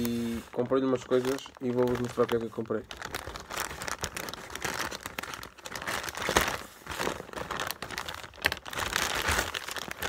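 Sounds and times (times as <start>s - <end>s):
plastic bag crinkling and rustling: 0.0s - 10.0s.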